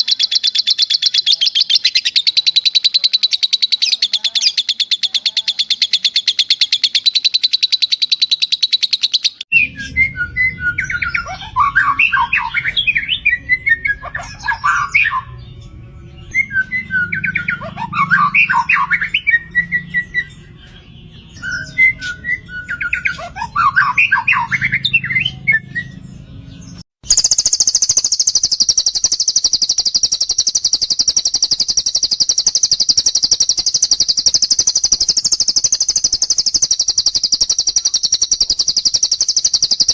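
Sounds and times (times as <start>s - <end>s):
songbird warbling: 0.0s - 20.4s, 21.3s - 26.0s, 27.0s - 39.9s
songbird trilling: 0.0s - 26.2s, 27.0s - 39.9s
very high rapid bird trill: 0.0s - 39.9s.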